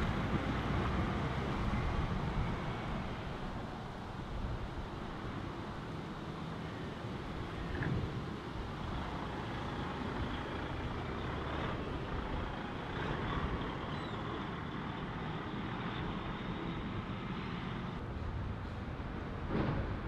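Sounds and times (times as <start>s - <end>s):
truck diesel engine passing: 0.0s - 20.0s.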